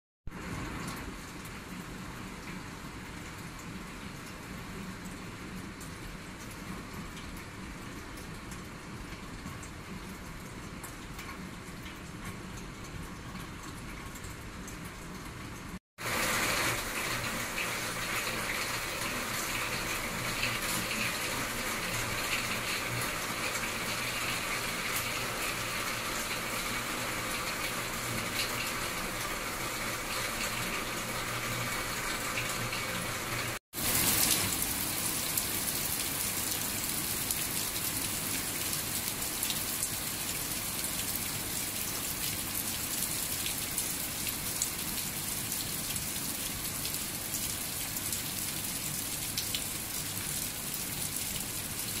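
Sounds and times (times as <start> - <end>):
heavy rain on foliage: 0.3 - 52.0.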